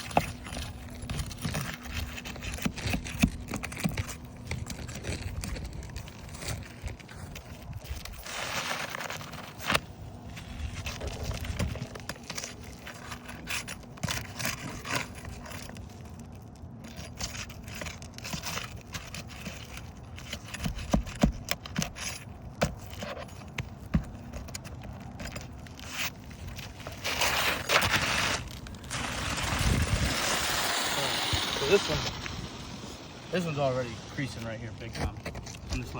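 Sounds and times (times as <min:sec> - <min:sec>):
scraping and rustling on shingles: 0:00.0 - 0:35.9.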